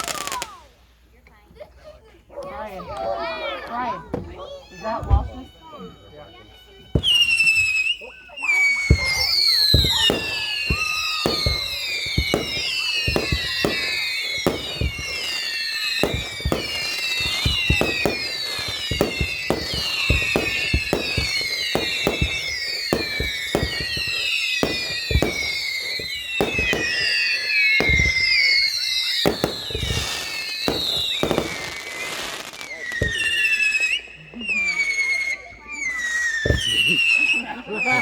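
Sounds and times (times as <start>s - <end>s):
fireworks bangs: 0.0s - 0.8s, 2.8s - 38.0s
fireworks whistles dropping in pitch: 0.0s - 0.8s, 3.2s - 38.0s.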